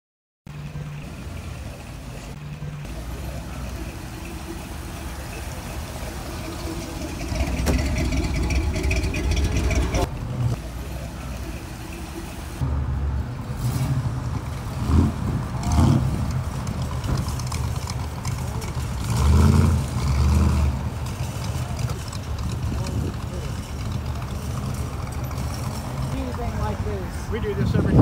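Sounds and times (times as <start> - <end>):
cars driving past: 0.5 - 28.0
loud vehicle passing: 0.5 - 28.0.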